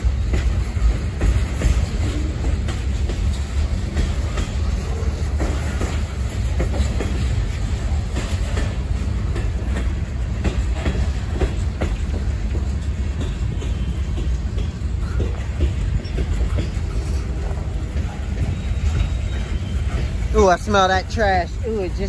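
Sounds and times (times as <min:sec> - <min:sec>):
freight train cars rumbling: 0:00.0 - 0:22.0.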